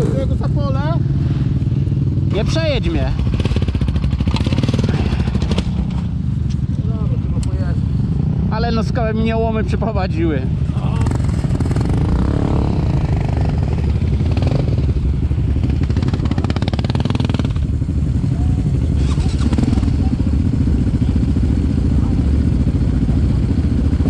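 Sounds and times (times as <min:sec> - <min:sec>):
quad bike engines running: 0:00.0 - 0:24.0.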